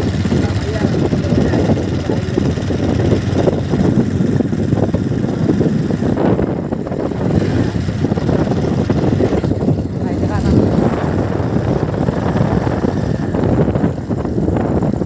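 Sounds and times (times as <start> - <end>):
motorcycle engine running: 0.0 - 15.0
wind over microphone: 0.0 - 15.0.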